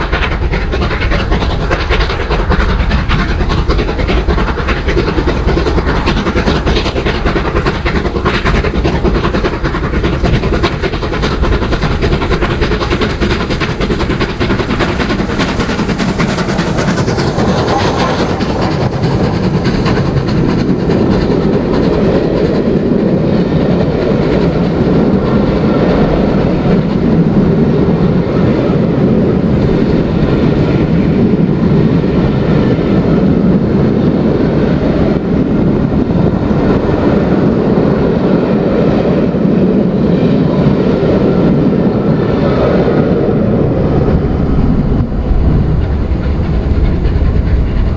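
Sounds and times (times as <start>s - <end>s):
low train rumble: 0.0s - 47.9s
train wheels clattering: 0.0s - 47.9s.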